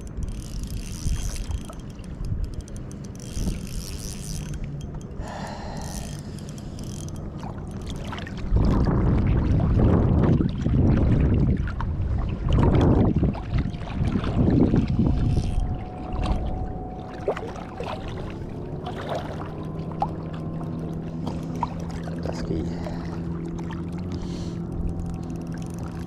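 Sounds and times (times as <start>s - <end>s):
water noise: 0.0s - 26.0s
wind: 0.0s - 26.0s.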